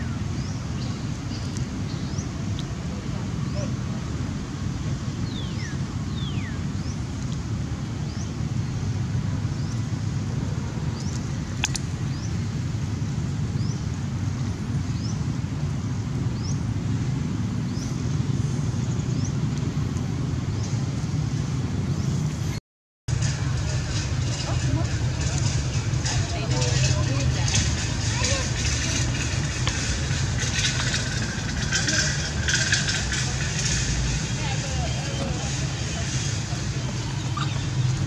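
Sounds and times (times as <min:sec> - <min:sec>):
low outdoor rumble: 0:00.0 - 0:38.0.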